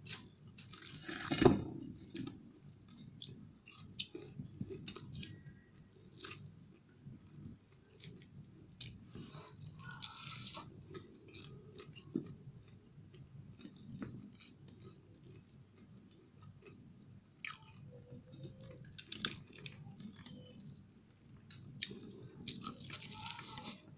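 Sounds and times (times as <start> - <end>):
chewing crispy fried fish: 0.0 - 23.9.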